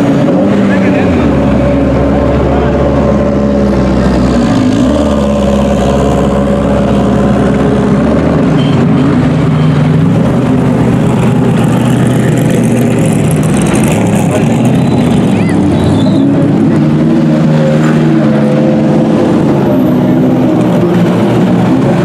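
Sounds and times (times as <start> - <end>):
race car engines passing slowly: 0.0 - 22.0.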